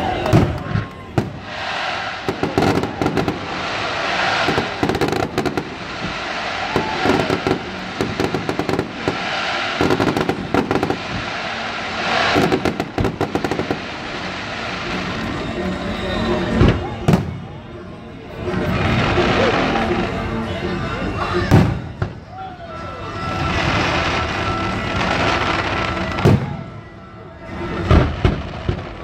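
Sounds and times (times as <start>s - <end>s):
fireworks bursting: 0.0s - 17.6s, 21.5s - 22.3s, 23.0s - 29.0s.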